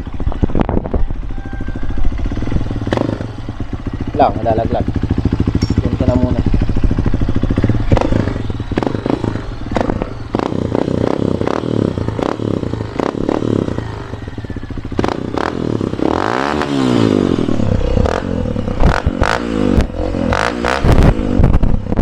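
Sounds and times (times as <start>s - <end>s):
exhaust crackles: 0.0s - 22.0s
motorcycle engine revving: 0.0s - 22.0s.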